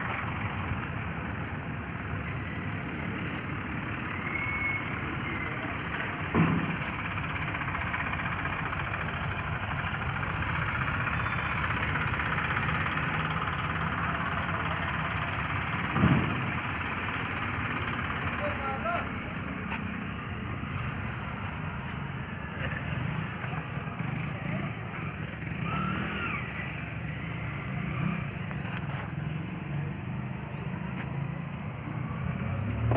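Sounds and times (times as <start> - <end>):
motor vehicle running: 0.0 - 32.9.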